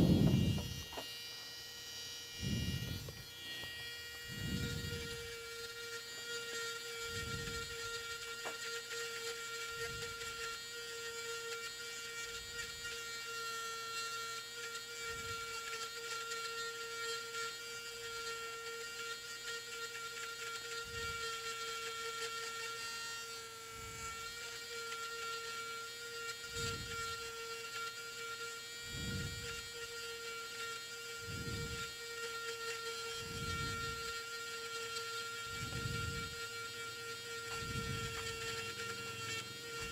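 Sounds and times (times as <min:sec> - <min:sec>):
electric motor whining: 0:00.0 - 0:39.9.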